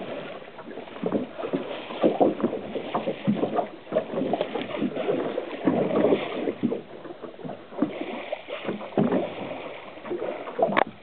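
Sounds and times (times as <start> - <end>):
sharp water splash: 0.0 - 11.0
waves lapping against boat hull: 0.0 - 11.0.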